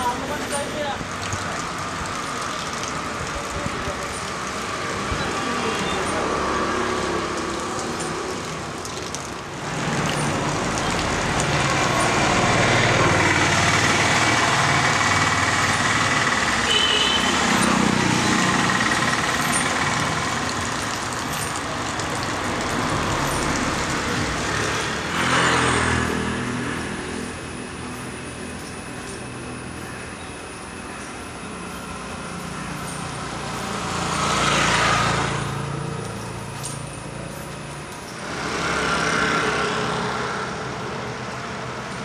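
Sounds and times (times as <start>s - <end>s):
vehicle engines passing: 0.0s - 42.0s.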